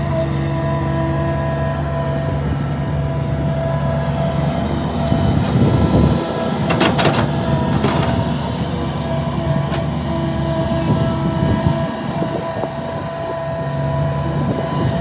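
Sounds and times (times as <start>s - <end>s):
diesel earthmoving machinery running: 0.0s - 15.0s.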